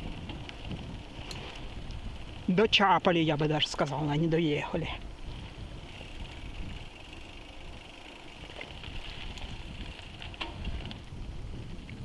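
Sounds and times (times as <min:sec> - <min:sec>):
wind on microphone: 0:00.0 - 0:07.8, 0:08.4 - 0:12.0
bicycle tyres rumbling: 0:00.0 - 0:12.0.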